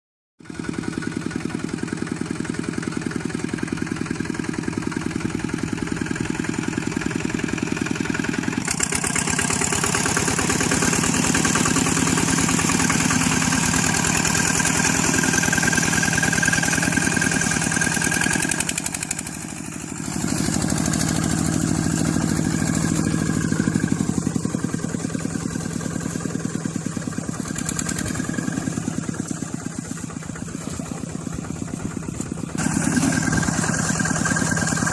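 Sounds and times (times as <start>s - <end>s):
small engine running: 0.4s - 34.9s.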